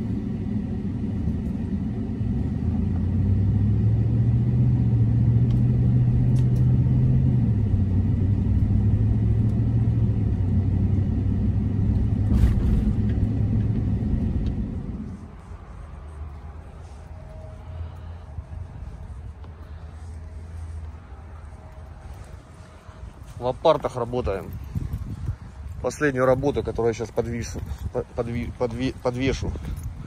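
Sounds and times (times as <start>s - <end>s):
truck engine and road rumble: 0.0s - 30.0s.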